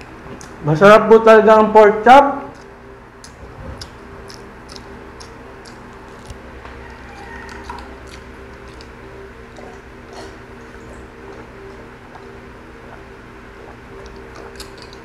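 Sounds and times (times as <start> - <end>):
faint steady hum: 0.0 - 15.0
wet chewing mouth smacks: 0.3 - 0.6, 2.5 - 15.0.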